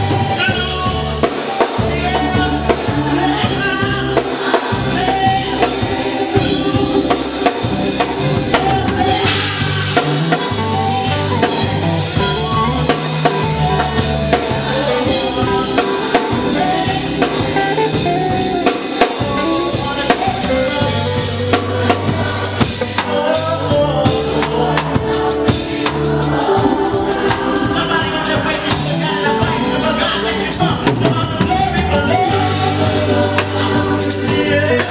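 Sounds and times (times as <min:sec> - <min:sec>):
bass notes: 0:00.0 - 0:34.9
drum kit beat: 0:00.0 - 0:34.9
keyboard chords: 0:00.0 - 0:34.9.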